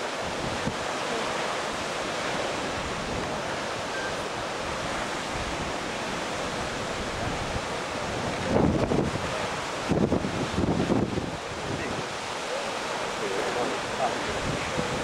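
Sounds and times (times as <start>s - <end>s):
ocean surf: 0.0s - 15.0s
wind: 0.0s - 15.0s
wind buffeting microphone: 0.2s - 12.3s, 13.8s - 15.0s.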